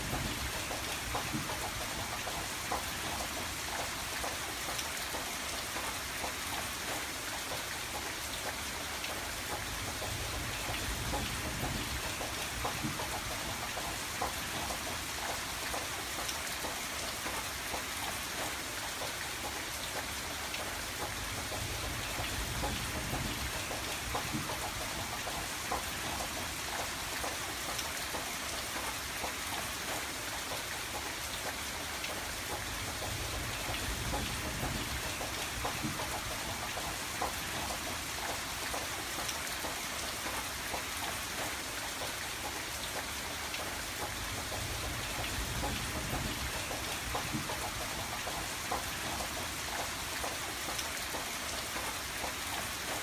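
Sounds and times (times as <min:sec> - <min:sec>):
rain falling on a window: 0:00.0 - 0:53.0.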